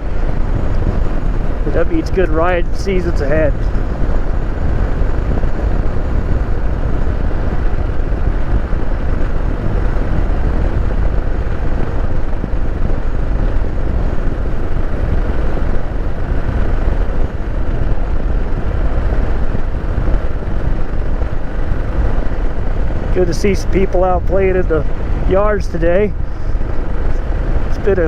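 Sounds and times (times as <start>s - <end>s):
motorcycle engine rumbling: 0.0s - 28.0s
road and wind noise: 0.0s - 28.0s.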